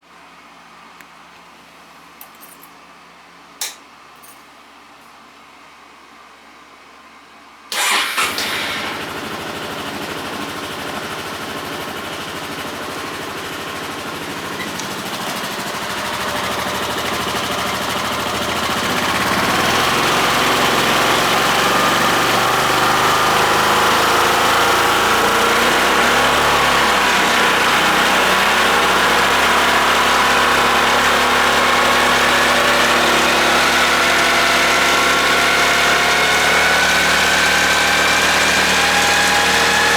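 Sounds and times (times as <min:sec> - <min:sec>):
scooter engine idling and revving: 0:07.8 - 0:39.9.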